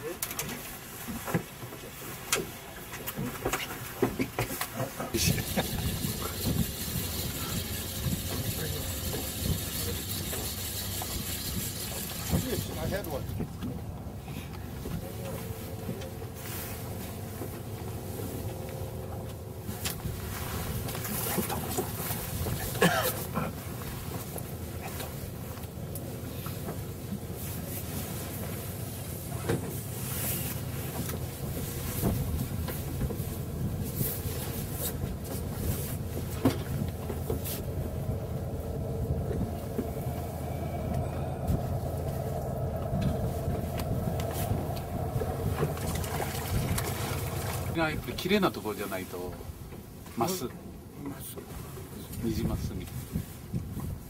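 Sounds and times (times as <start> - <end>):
boat engine low rumble: 0.0 - 54.0.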